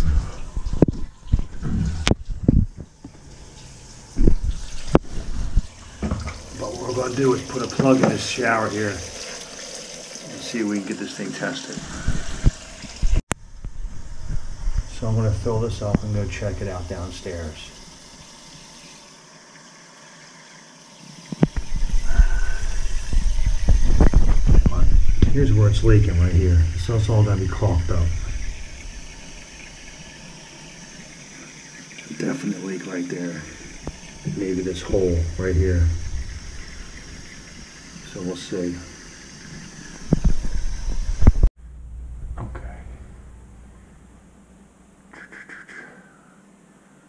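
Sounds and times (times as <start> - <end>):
faint hiss of water: 0.0 - 41.5.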